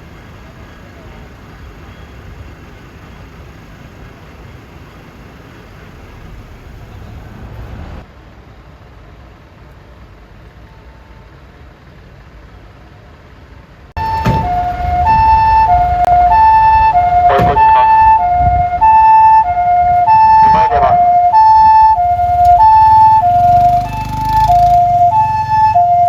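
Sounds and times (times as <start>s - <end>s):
traffic noise: 0.0s - 26.0s
vehicle engines running: 0.0s - 26.0s.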